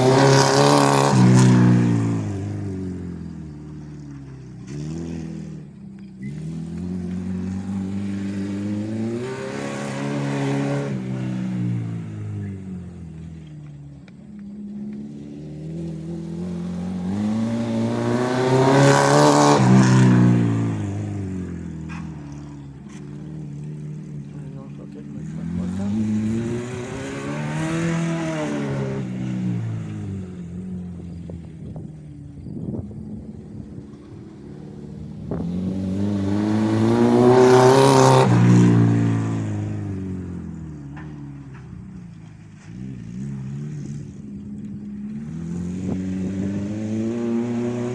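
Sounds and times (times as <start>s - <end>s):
car engine revving under load: 0.0s - 47.9s.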